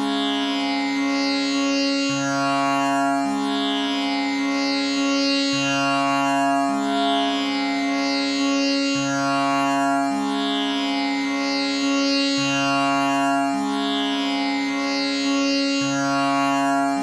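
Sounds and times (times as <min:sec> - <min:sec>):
tanpura drone: 0:00.0 - 0:17.0.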